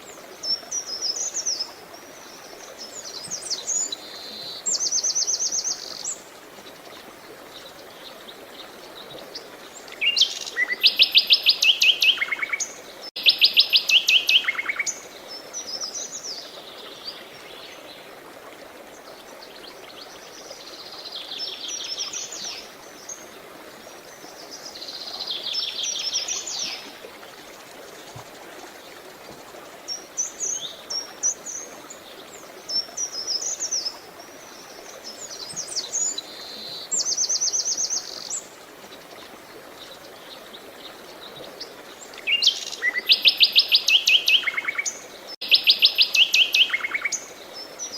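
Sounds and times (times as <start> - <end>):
running water hiss: 0.0 - 47.9.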